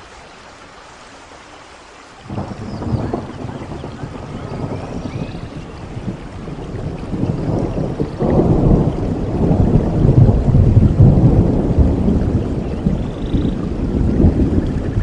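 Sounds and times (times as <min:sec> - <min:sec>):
steady rain: 0:00.0 - 0:15.0
rolling thunder: 0:02.3 - 0:15.0.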